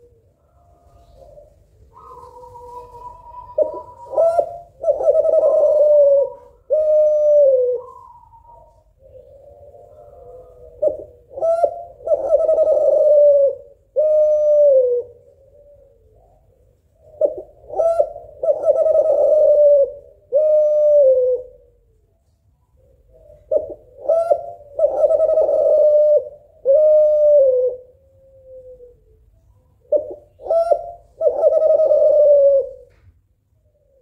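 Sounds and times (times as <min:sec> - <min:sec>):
dove cooing: 0:00.0 - 0:34.0.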